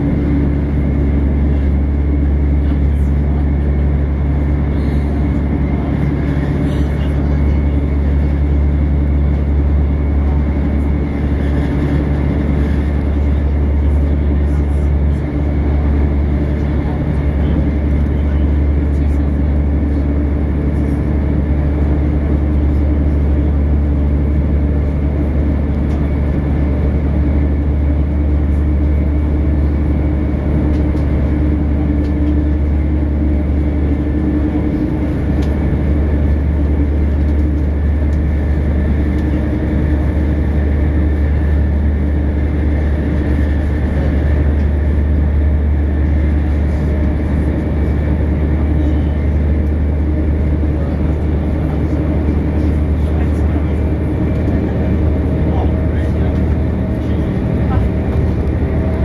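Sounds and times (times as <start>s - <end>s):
constant hum: 0.0s - 59.0s
train rumbling along track: 0.0s - 59.0s.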